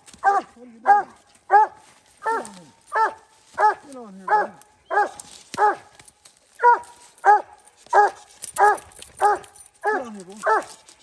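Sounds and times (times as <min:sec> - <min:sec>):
dogs barking: 0:00.2 - 0:06.0, 0:06.6 - 0:10.8.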